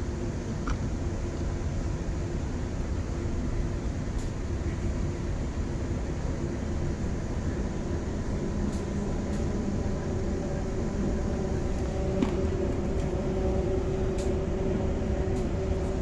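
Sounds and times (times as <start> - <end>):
steady hum: 0.0 - 16.0
train wheels rumbling on track: 0.0 - 16.0.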